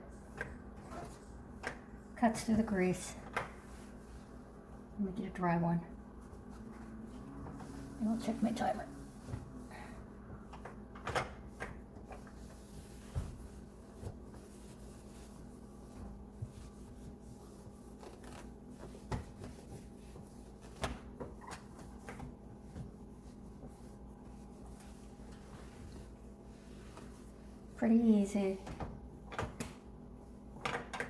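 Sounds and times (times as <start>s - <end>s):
cloth wiping microwave: 0.0s - 30.6s.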